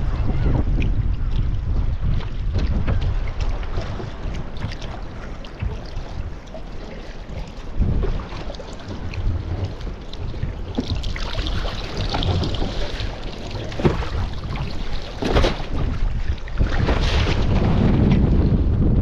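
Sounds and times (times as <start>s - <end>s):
water splashing along boat hull: 0.0s - 19.0s
wind buffeting microphone: 0.0s - 19.0s.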